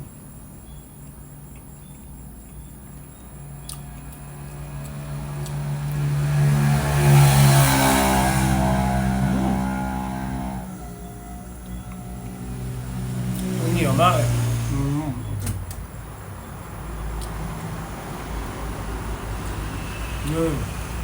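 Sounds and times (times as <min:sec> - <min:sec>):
vehicle engine passing by: 0:02.9 - 0:21.0.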